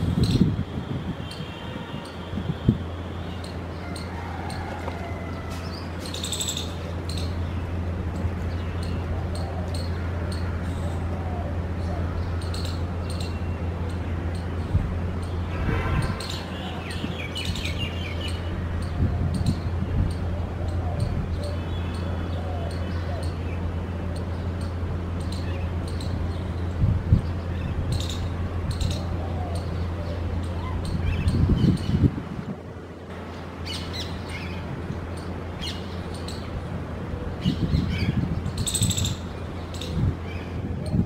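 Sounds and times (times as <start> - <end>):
birds chirping: 1.2 - 32.1, 33.1 - 41.0.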